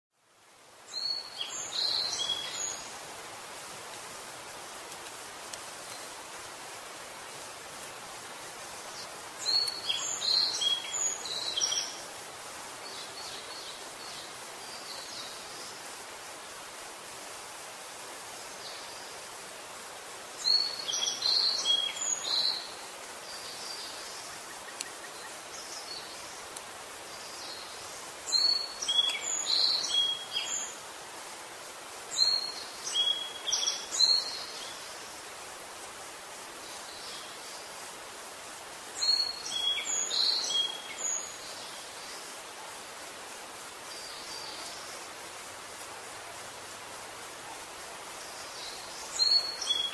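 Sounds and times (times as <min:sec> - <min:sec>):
outdoor background hiss: 0:00.1 - 0:49.9.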